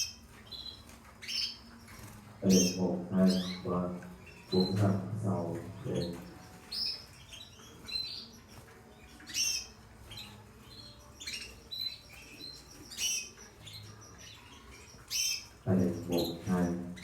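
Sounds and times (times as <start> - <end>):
canaries chirping: 0.0 - 17.0.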